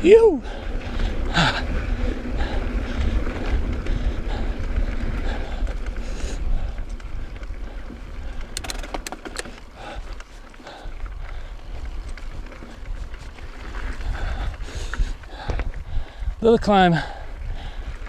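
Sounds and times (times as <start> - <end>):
bike clicks and rattles: 0.0 - 18.0
bike tyres rumbling on dirt: 0.0 - 18.0
wind buffeting microphone: 0.0 - 18.0.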